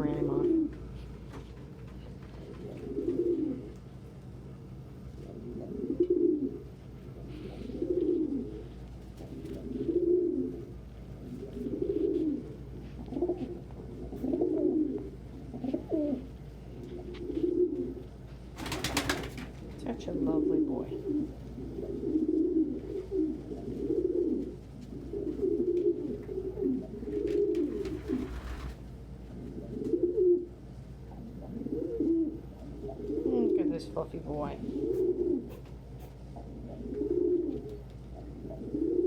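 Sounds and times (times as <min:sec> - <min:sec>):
pigeon cooing: 0:00.0 - 0:01.0, 0:02.4 - 0:03.8, 0:05.2 - 0:19.3, 0:20.2 - 0:33.9, 0:34.6 - 0:39.0
steady low hum: 0:00.0 - 0:39.0.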